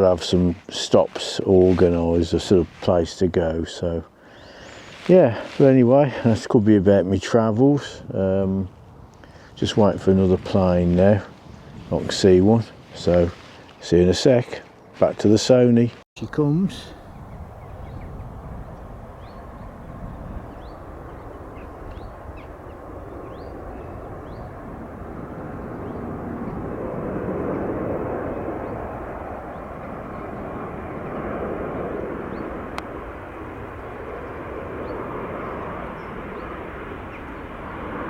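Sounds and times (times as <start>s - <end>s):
airliner engine rumble: 0.0s - 15.4s, 16.2s - 38.0s.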